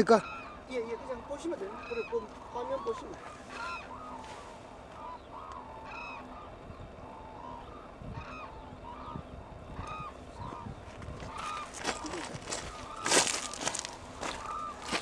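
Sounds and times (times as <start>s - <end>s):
cranes honking calls: 0.0s - 15.0s.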